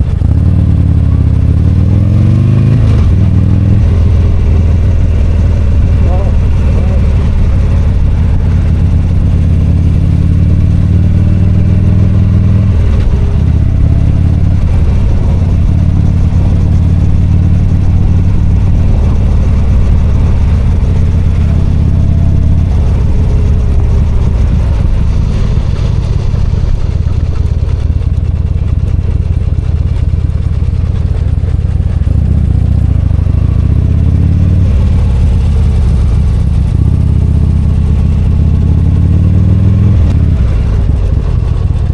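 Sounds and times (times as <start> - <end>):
motorcycle engine running: 0.0 - 41.9
road noise: 0.0 - 41.9.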